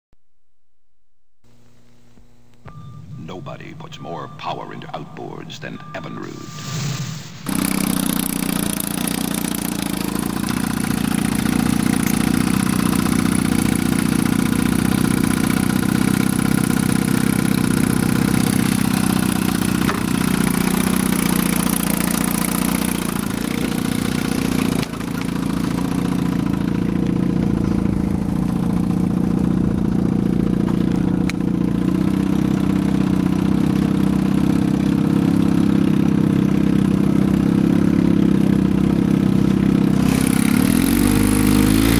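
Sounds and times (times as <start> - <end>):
outboard motor running: 7.5 - 41.9.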